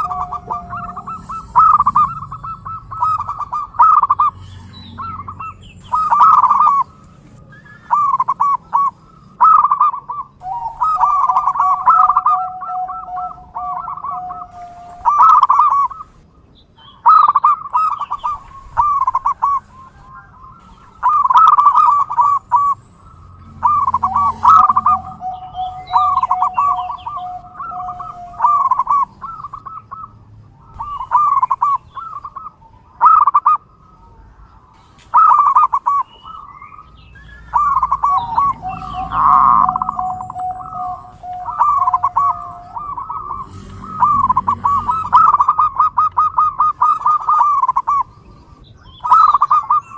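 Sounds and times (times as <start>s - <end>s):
dove cooing: 0.0s - 16.2s, 17.0s - 33.6s, 35.1s - 49.9s.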